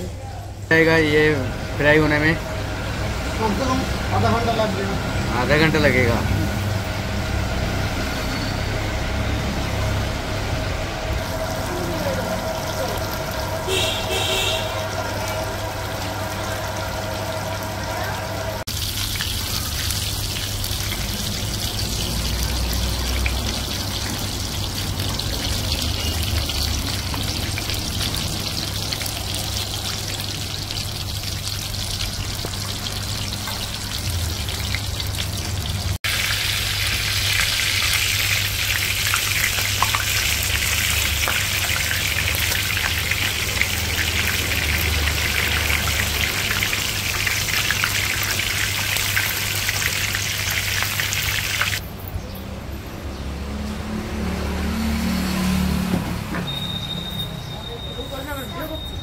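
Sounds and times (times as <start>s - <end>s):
hot oil sizzling: 0.4s - 51.8s.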